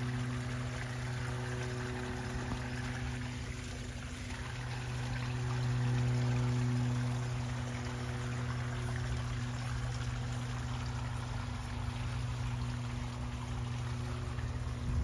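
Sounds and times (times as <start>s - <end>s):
constant low hum: 0.0s - 15.0s
water splashing over rocks: 0.0s - 15.0s.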